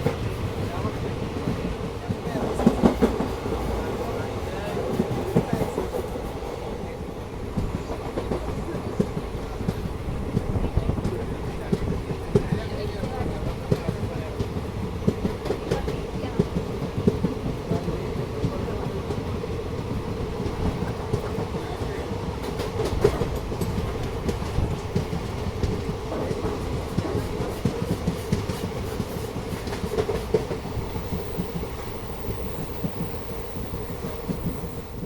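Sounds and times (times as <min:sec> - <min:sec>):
train rumbling along track: 0:00.0 - 0:35.0.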